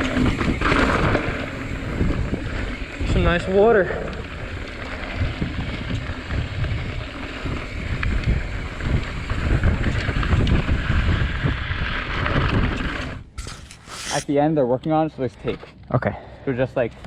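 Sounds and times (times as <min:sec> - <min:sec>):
bike rolling over dirt trail: 0:00.0 - 0:14.2
wind rushing over microphone: 0:00.0 - 0:14.4.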